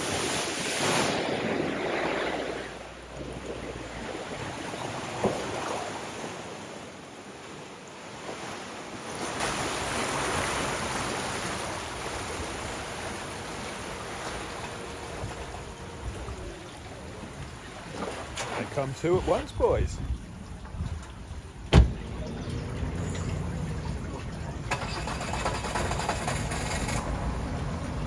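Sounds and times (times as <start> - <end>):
floodwater rushing and splashing: 0.0 - 28.0.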